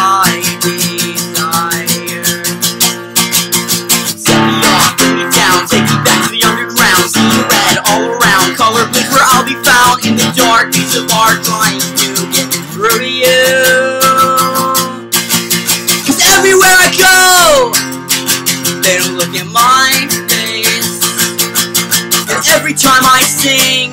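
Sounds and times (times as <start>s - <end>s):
man singing: 0.0s - 15.1s, 15.8s - 23.9s
acoustic guitar strumming: 0.0s - 23.9s.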